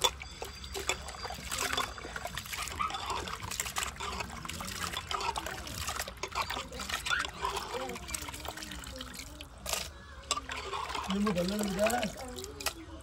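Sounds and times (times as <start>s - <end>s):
water sloshing and splashing in pot: 0.0s - 13.0s.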